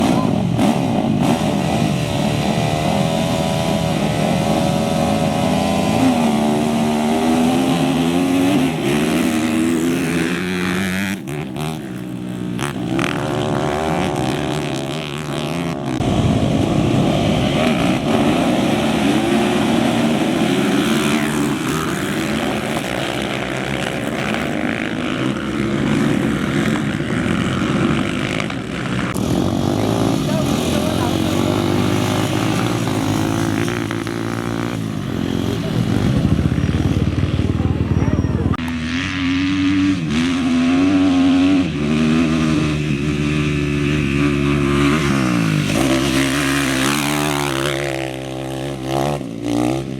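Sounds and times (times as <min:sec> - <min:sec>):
off-road engines revving: 0:00.0 - 0:49.9.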